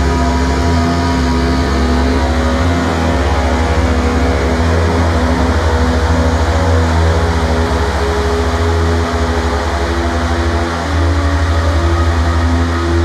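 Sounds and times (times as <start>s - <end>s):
electronic music pulsing drone: 0.0s - 13.0s.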